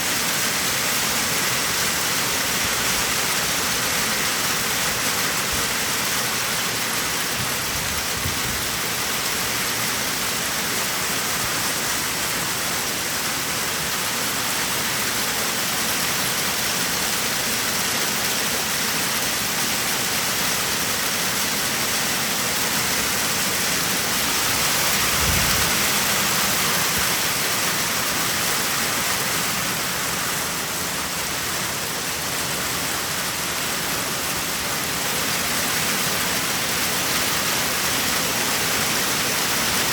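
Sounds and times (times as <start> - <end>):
heavy rain and hail: 0.0 - 39.9.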